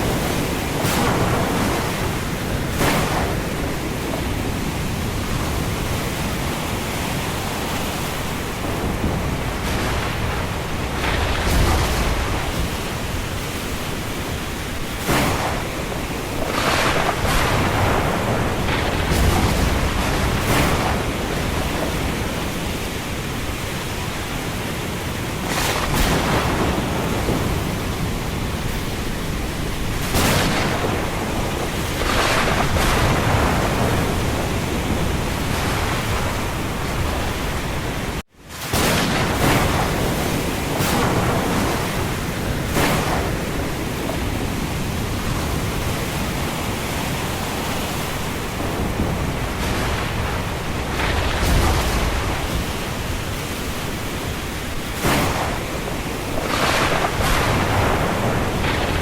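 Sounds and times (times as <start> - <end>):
rain: 0.0 - 59.0
wind: 0.0 - 59.0.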